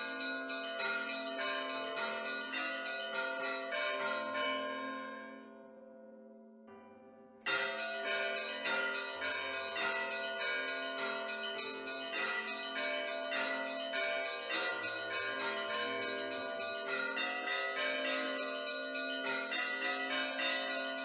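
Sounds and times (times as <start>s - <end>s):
church bells pealing: 0.0s - 5.6s, 7.4s - 21.0s.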